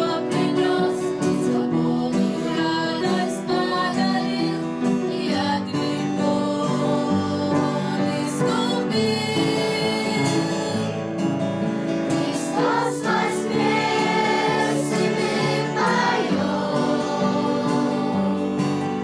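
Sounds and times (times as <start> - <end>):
choir singing: 0.0 - 19.0
musical accompaniment: 0.0 - 19.0.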